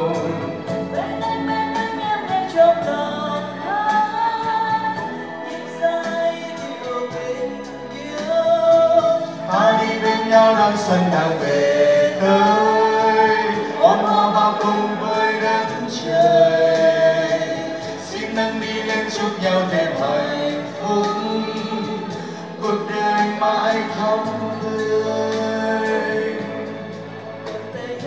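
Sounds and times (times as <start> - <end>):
instrumental backing track with beat: 0.0 - 28.0
man and woman singing duet: 0.0 - 28.0.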